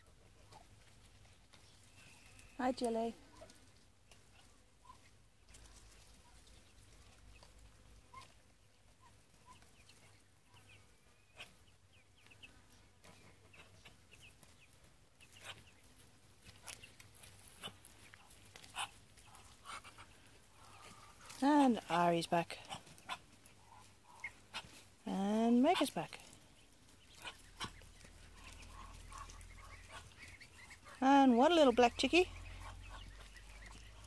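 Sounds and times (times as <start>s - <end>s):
ducklings cheeping: 0.0s - 34.0s.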